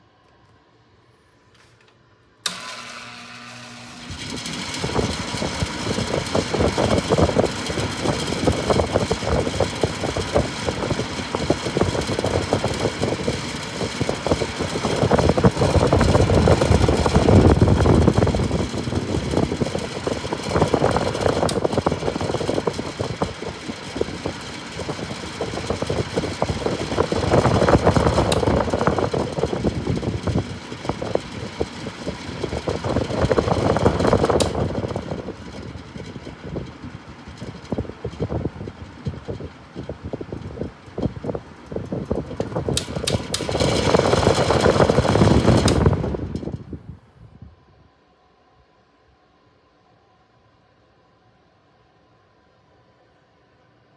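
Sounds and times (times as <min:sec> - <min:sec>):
box fan motor hum: 0:02.3 - 0:47.4.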